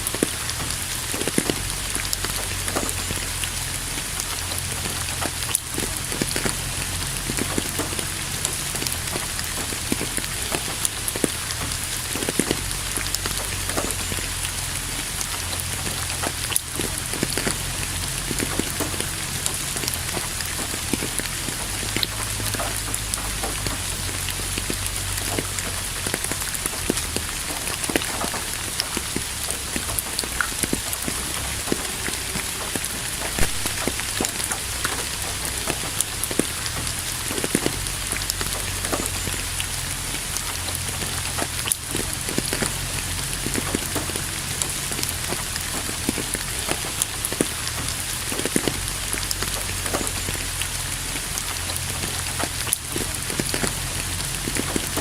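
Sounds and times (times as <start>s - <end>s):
rain drops tapping: 0.0s - 55.0s.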